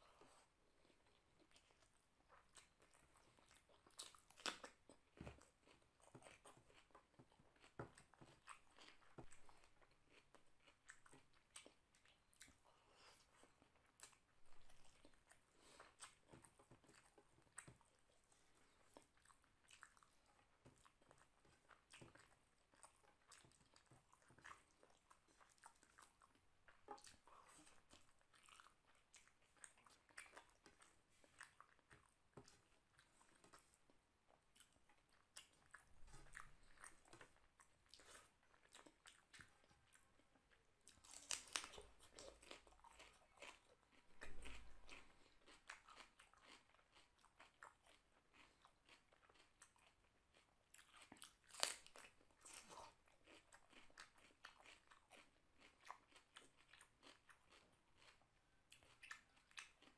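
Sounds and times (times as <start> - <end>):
person chewing: 0.0 - 59.9.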